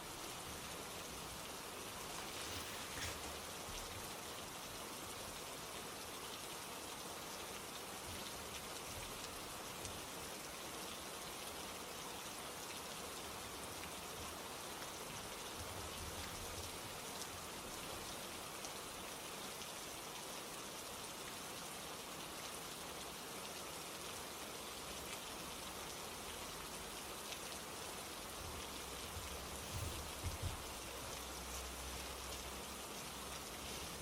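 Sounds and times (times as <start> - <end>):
steady rain patter: 0.0 - 34.0.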